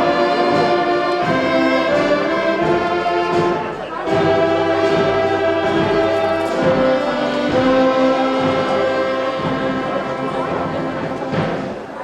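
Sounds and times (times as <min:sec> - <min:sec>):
wind band playing chords: 0:00.0 - 0:12.0.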